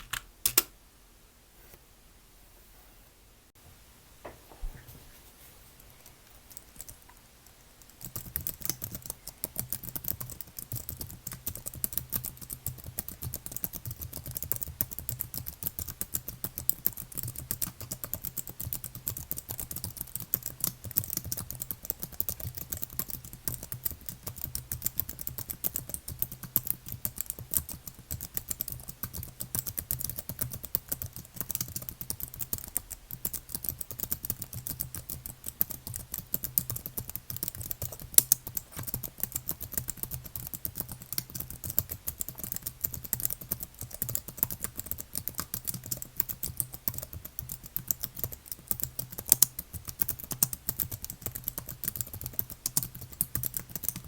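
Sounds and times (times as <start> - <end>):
typing on computer keyboard: 0.0 - 0.7, 6.4 - 7.2, 7.8 - 54.0.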